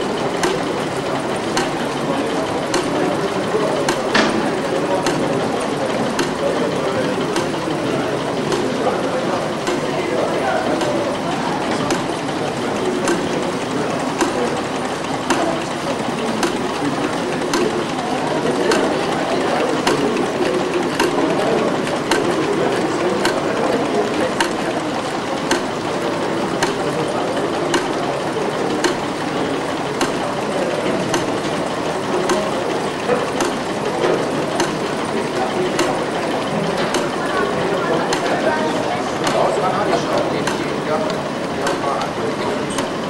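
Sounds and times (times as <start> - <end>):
machine running: 0.0 - 43.0
sharp rhythmic click: 0.0 - 43.0.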